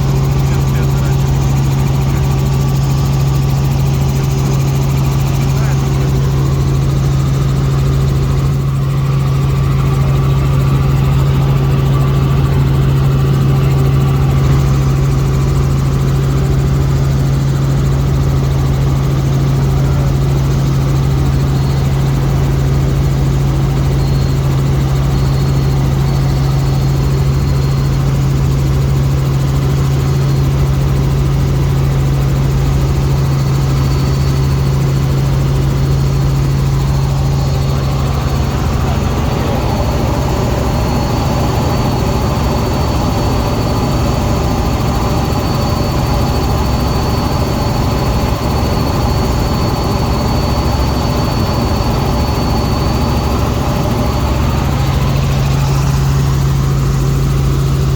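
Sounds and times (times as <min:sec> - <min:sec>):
helicopter engine and rotor: 0:00.0 - 0:57.9.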